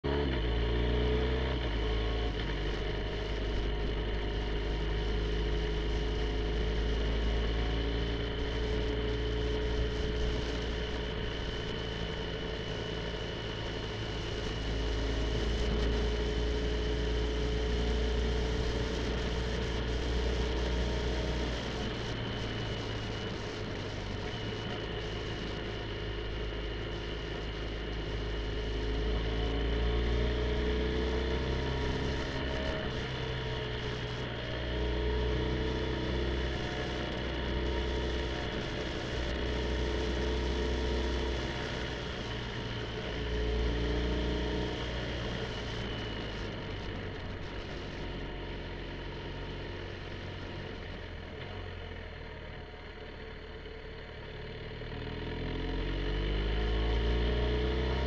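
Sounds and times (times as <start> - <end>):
wind and road noise: 0.0 - 52.0
motorcycle engine running: 0.0 - 58.0.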